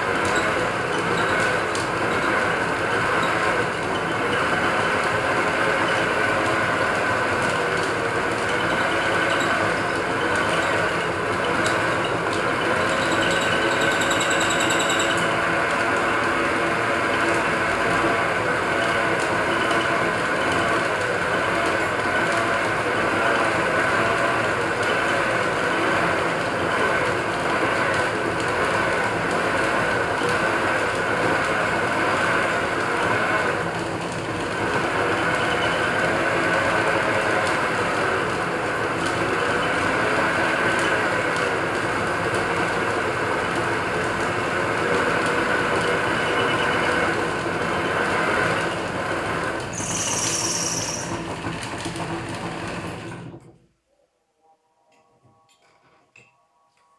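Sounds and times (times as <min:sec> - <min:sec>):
lathe motor whirring: 0:00.0 - 0:53.4.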